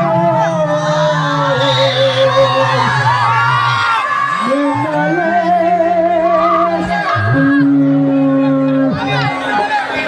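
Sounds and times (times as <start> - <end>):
live music with person singing: 0.0 - 9.5.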